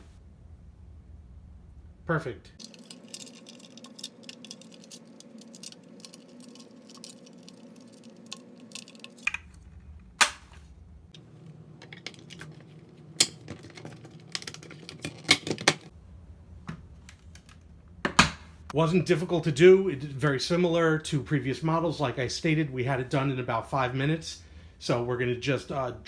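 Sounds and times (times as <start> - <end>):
faint steady hum: 0.0 - 14.7, 15.6 - 26.0.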